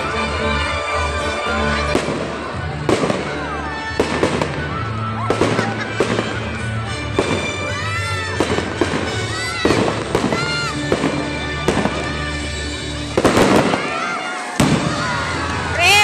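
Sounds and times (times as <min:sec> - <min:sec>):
music playing: 0:00.0 - 0:16.0
fireworks bangs: 0:01.9 - 0:15.7.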